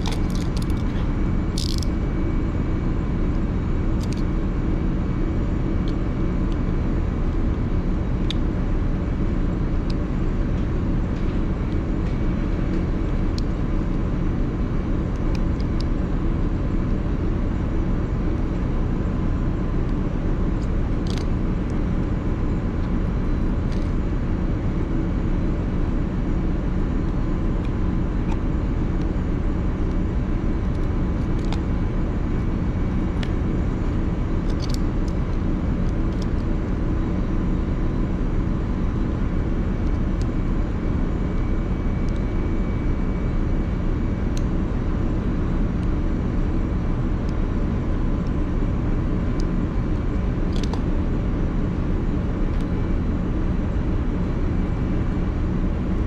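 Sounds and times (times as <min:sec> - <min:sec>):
ship machinery drone: 0:00.0 - 0:56.0.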